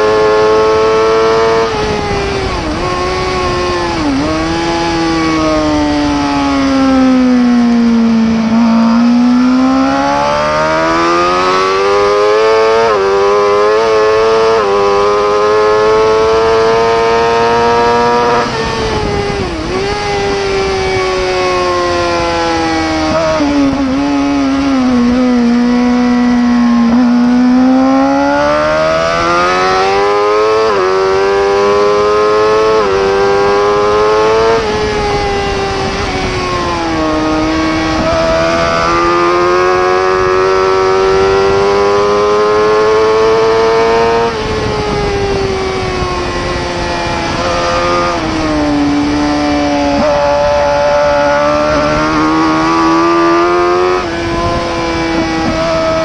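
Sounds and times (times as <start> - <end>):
superbike engine accelerating: 0.0 - 56.0.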